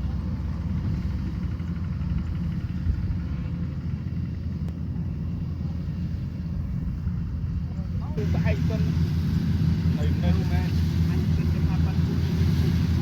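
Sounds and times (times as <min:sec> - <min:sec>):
combine harvester engine rumble: 0:00.0 - 0:13.0.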